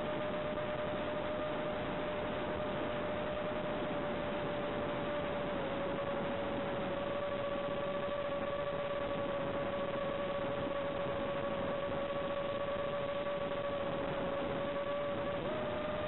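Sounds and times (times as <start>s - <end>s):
video link static hiss: 0.0s - 16.0s.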